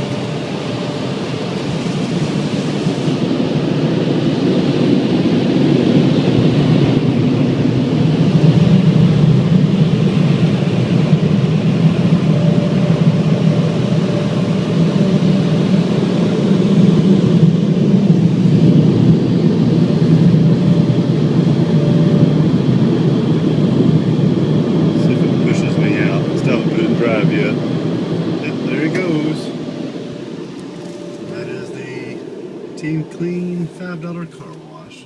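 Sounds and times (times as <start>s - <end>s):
car wash machinery rumble: 0.0s - 35.0s
faint steady hum: 0.0s - 35.0s.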